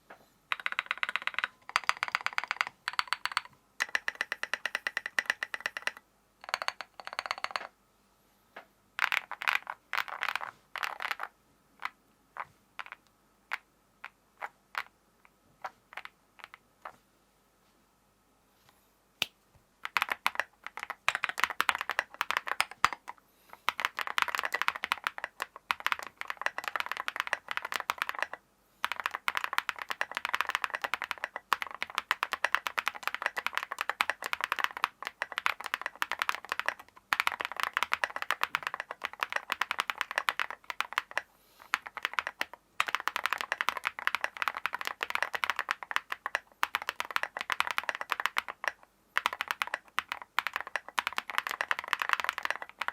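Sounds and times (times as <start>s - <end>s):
fast mechanical keyboard typing: 0.5s - 7.7s, 9.0s - 11.3s, 19.8s - 52.9s.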